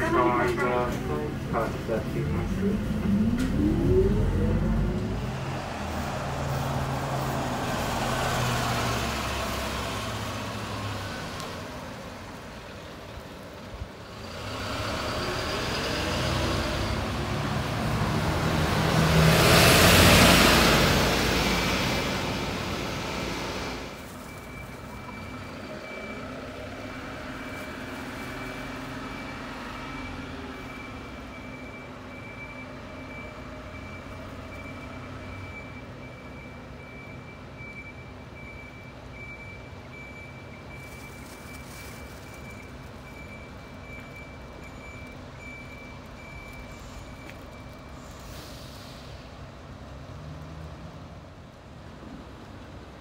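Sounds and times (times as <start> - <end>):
diesel bus engines: 0.0 - 53.0.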